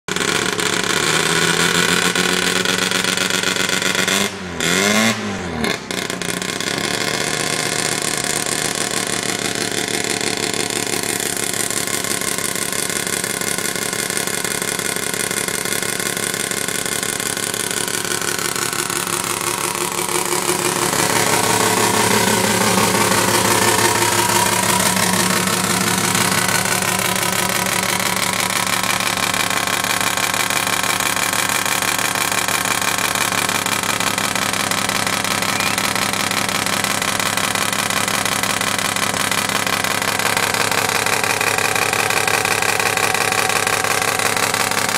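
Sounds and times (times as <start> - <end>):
rotary engine revving and idling: 0.0 - 44.9.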